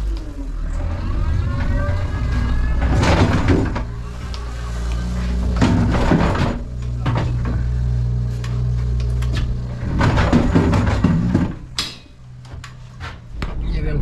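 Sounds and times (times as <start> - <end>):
forklift running: 0.0 - 14.0
knocks and clunks of load: 1.4 - 13.8.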